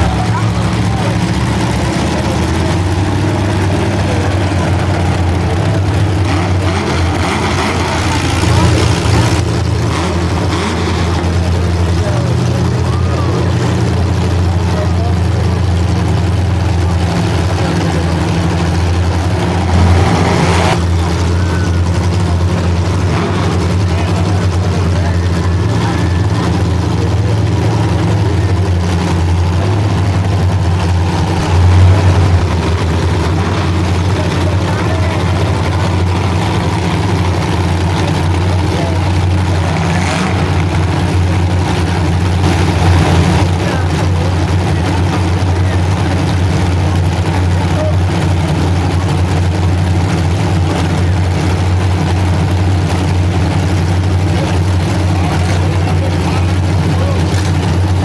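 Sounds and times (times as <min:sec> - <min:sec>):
car engine revving: 0:00.0 - 0:58.0
car engines rumbling: 0:00.0 - 0:58.0.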